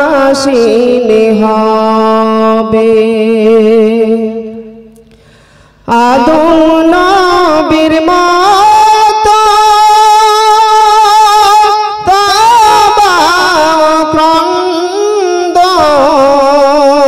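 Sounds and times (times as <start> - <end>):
man singing with vibrato: 0.0 - 5.0, 5.8 - 17.0.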